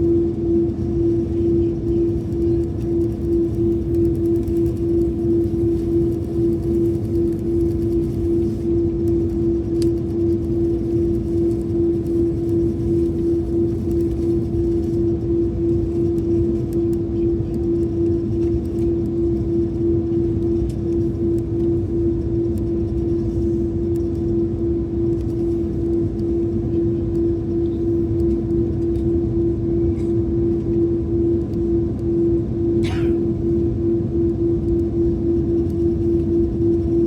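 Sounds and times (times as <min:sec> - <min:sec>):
airliner cabin hum: 0:00.0 - 0:37.0.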